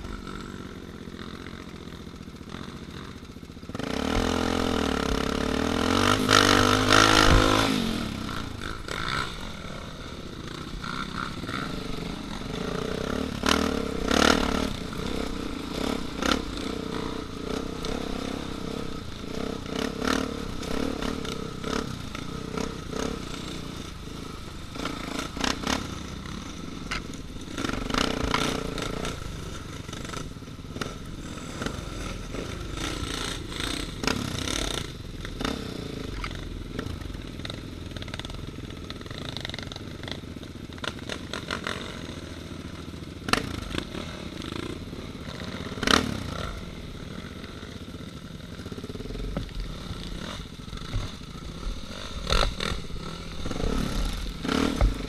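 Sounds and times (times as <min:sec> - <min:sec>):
dirt bike engine revving: 0:00.0 - 0:37.6, 0:38.9 - 0:55.0.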